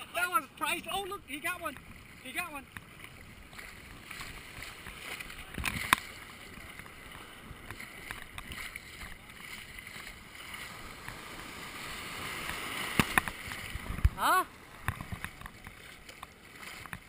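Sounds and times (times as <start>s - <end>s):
ocean surf sloshing: 0.0s - 17.0s.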